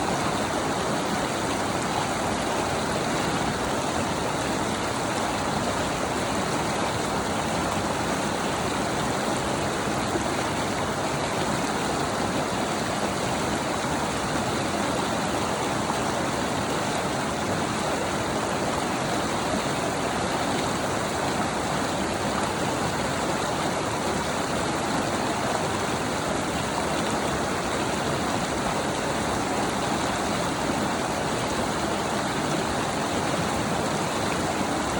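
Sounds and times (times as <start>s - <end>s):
stream rushing: 0.0s - 34.9s.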